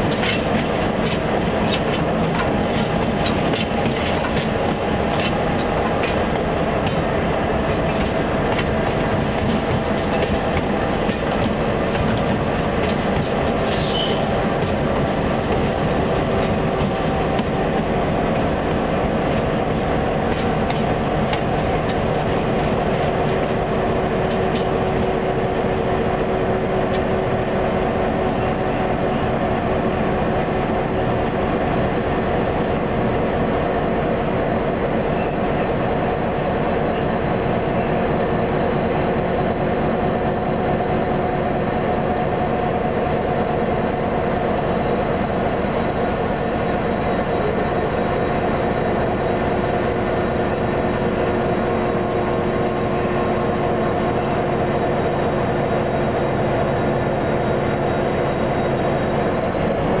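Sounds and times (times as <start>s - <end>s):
diesel locomotive engine drone: 0.0s - 60.0s.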